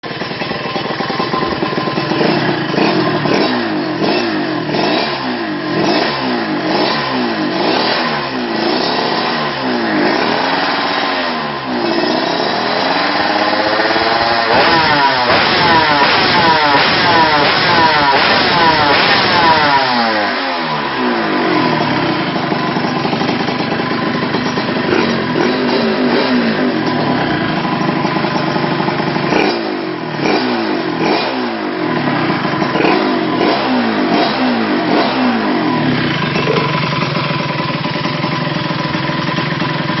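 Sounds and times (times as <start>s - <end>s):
two-stroke motorcycle engine revving: 0.0s - 40.0s.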